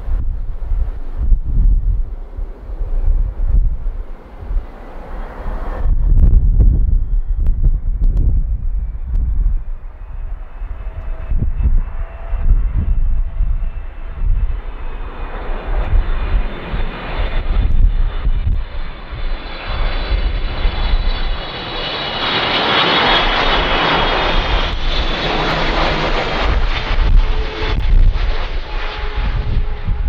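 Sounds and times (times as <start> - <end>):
high engine whine: 0.0 - 30.0
jet airliner passing by: 0.0 - 30.0.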